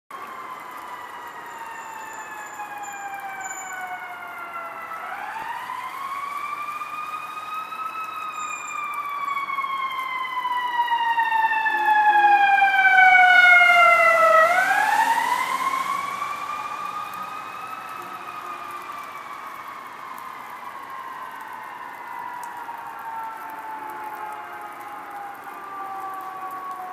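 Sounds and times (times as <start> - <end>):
fire truck siren wailing: 0.1 - 26.9.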